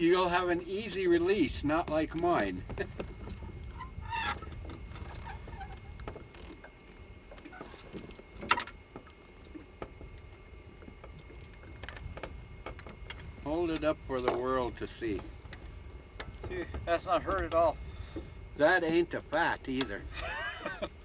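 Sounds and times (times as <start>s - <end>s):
low rumble of wind and water: 0.0s - 21.0s.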